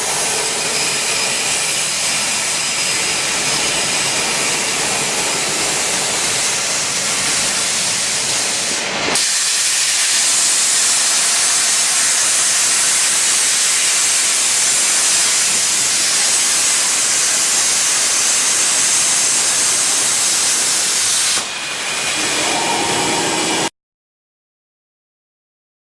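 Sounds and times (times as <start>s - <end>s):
plasma torch hissing: 0.0s - 23.7s.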